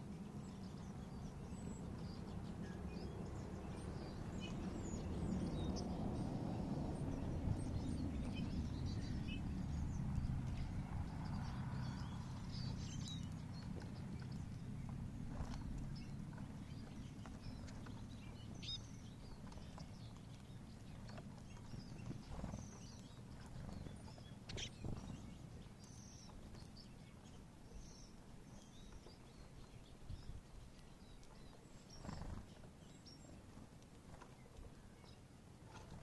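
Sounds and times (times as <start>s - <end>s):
low steady rumble: 0.0s - 32.6s
small songbirds calling: 0.0s - 36.0s.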